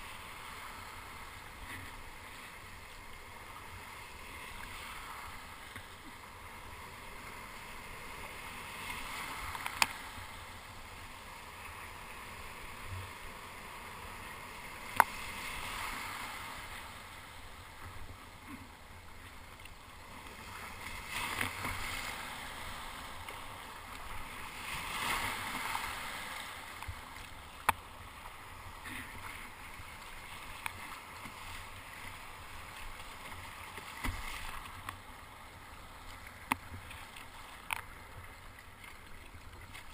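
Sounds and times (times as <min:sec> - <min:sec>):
surf rushing and gurgling: 0:00.0 - 0:39.9.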